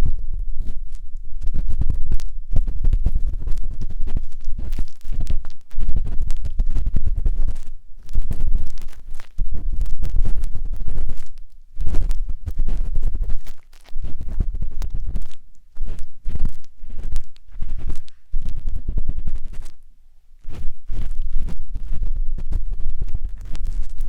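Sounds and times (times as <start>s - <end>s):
scraping inside microphone ears: 0.0s - 24.0s.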